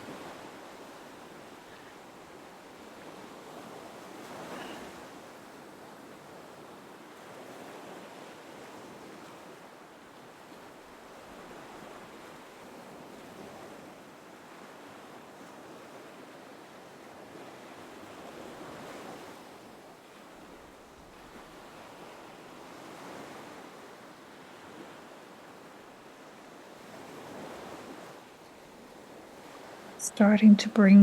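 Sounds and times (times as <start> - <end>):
gentle ocean waves: 0.0 - 31.0.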